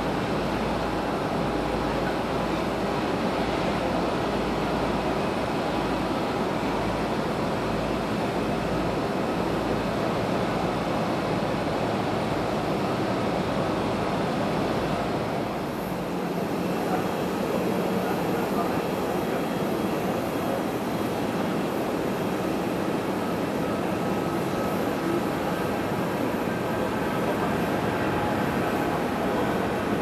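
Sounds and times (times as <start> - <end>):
muffled airport rumble: 0.2 - 30.0.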